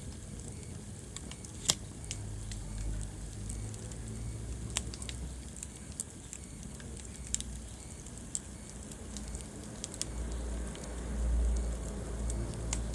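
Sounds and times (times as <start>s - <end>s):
wood fire crackling: 0.0s - 12.9s.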